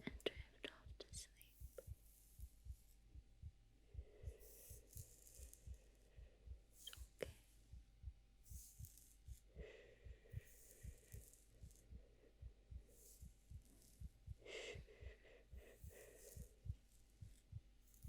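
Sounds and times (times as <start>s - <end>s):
heartbeat thumps: 0.0s - 18.0s.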